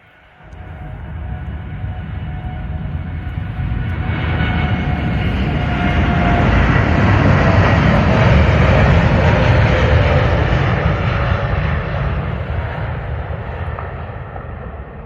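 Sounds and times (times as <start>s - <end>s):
airliner engines at takeoff: 0.0s - 15.0s.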